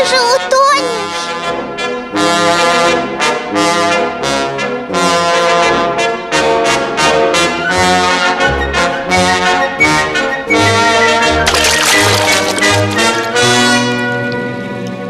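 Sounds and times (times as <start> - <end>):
brass cartoon music: 0.0 - 14.7.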